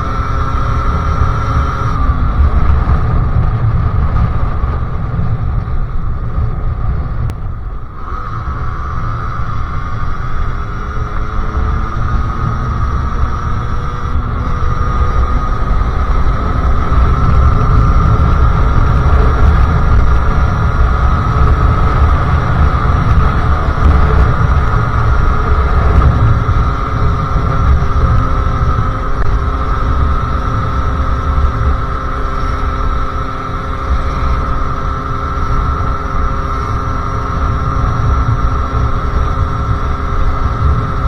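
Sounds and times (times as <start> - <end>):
motorcycle engine revving high: 0.0 - 41.0
wind rumble on microphone: 0.0 - 41.0.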